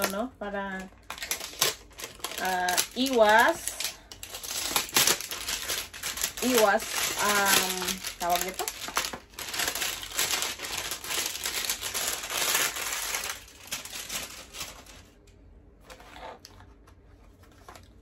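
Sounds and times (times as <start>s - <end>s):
plastic wrapping crumpling: 0.0s - 16.5s.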